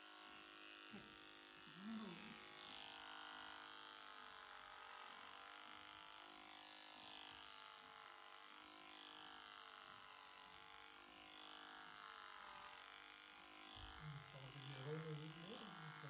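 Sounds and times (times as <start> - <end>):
electric clipper humming: 0.0 - 16.0.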